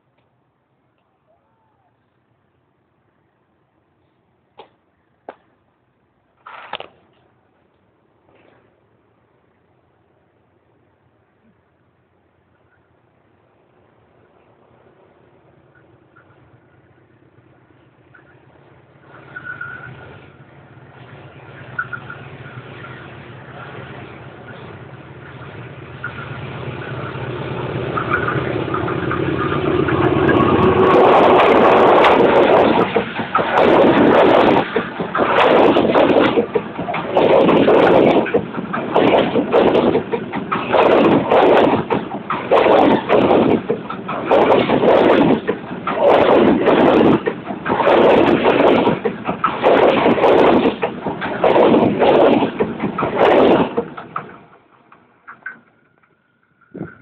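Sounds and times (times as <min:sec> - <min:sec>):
diesel locomotive engine: 0:00.0 - 0:57.0
train passing with loud rush: 0:00.0 - 0:57.0
wheels clicking and rattling on rails: 0:00.0 - 0:57.0.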